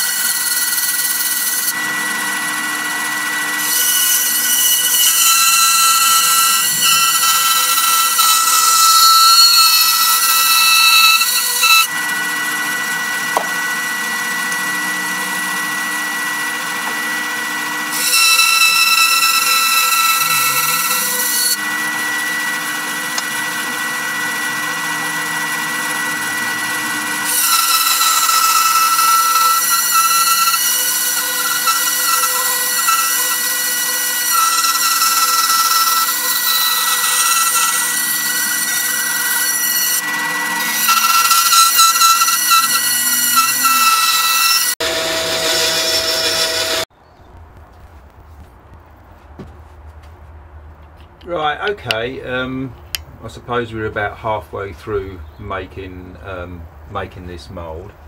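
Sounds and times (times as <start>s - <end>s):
bandsaw cutting wood: 0.0s - 46.9s.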